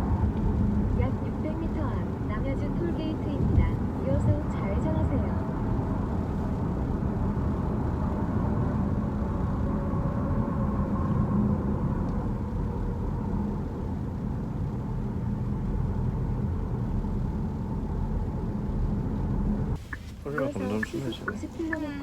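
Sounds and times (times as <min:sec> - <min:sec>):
road and engine noise in car cabin: 0:00.0 - 0:22.0.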